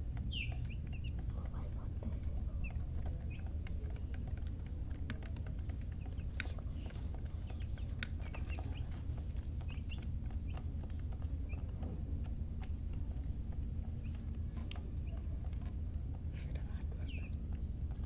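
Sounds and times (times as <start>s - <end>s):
chicks peeping: 0.0s - 18.0s
steady low rumble: 0.0s - 18.0s.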